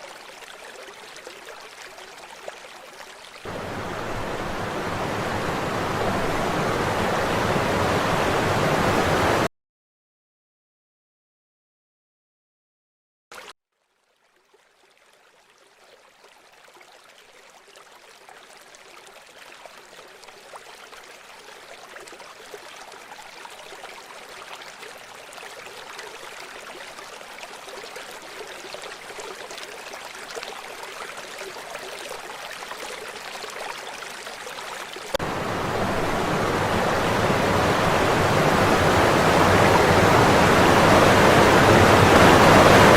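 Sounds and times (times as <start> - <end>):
rushing river water: 0.0 - 9.5, 14.3 - 42.9.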